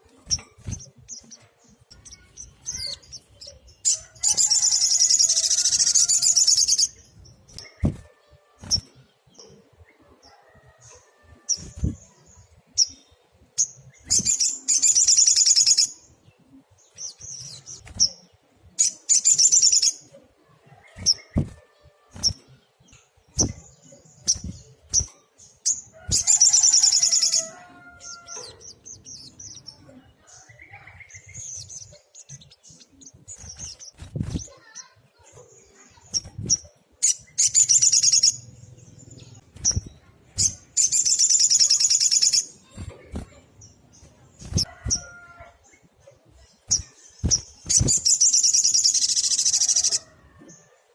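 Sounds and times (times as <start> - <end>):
high bird chirps: 0.2 - 9.6, 12.8 - 16.1, 16.9 - 20.1, 22.2 - 45.6, 46.6 - 50.1.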